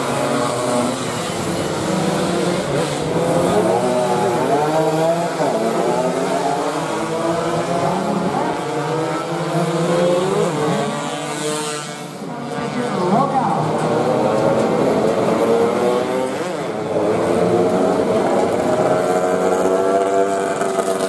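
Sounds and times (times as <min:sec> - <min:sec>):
racing motorcycles revving: 0:00.0 - 0:21.0.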